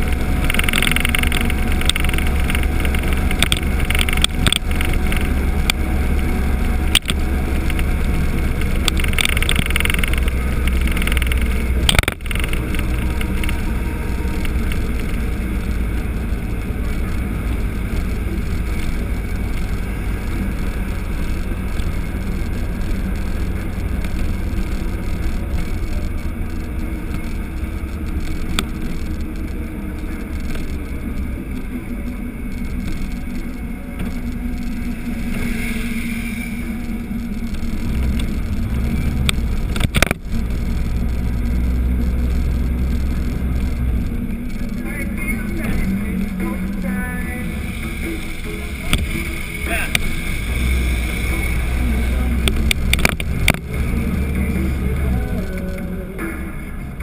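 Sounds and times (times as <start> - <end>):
motorcycle engine and road noise: 0.0 - 57.0.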